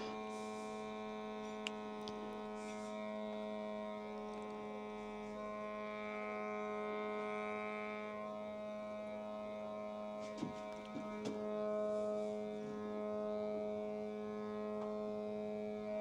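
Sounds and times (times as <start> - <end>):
hum of held tones: 0.0 - 16.0.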